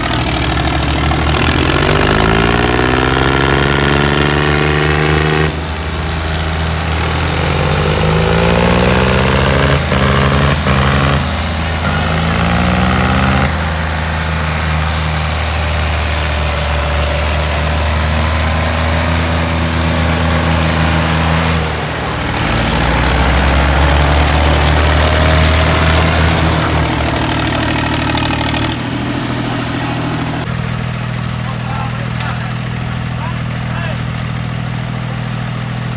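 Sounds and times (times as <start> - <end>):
tractor diesel engine revving: 0.0 - 35.9.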